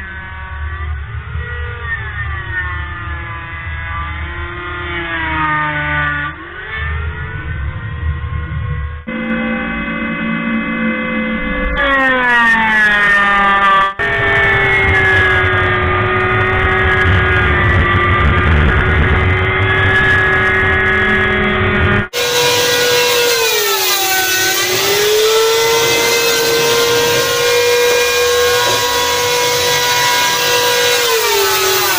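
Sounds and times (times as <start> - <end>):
electric planer shaving wood: 0.0 - 8.2, 9.0 - 31.9.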